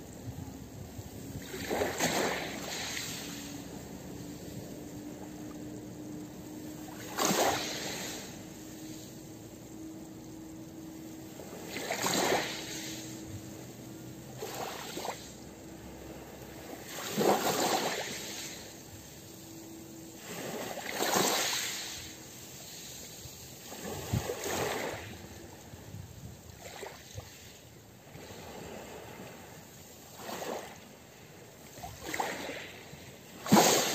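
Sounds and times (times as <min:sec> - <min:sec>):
waves lapping on pebble beach: 0:00.0 - 0:33.9.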